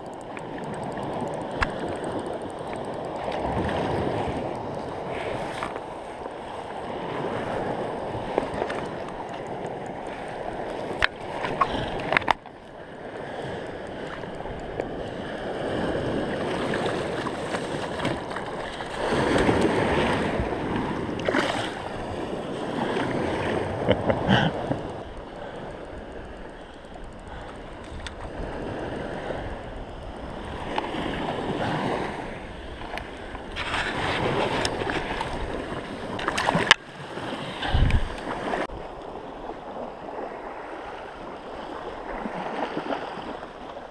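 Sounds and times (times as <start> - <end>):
water lapping and sloshing: 0.0 - 43.9.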